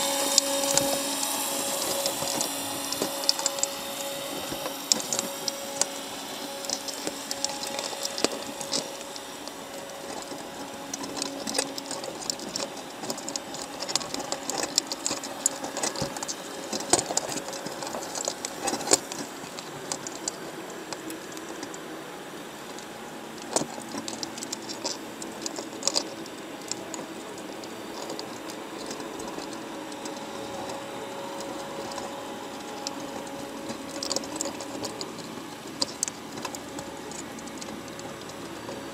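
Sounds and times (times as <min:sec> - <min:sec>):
crab shells clicking on wire: 0:00.0 - 0:21.9, 0:22.6 - 0:38.9
steady underwater hiss: 0:00.0 - 0:38.9.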